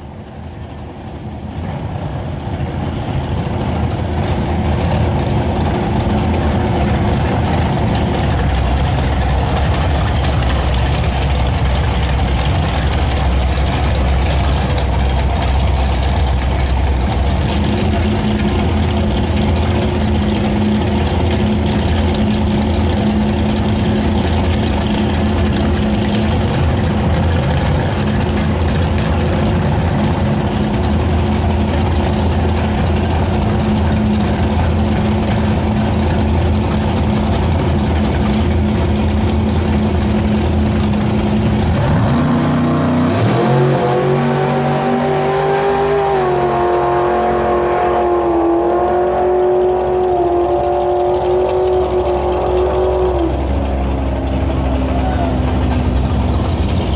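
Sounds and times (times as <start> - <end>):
drag car engine revving: 0.0 - 56.9.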